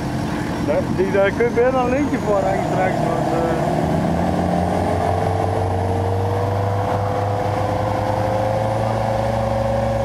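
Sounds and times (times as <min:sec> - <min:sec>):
truck engine running under load: 0:00.0 - 0:10.0.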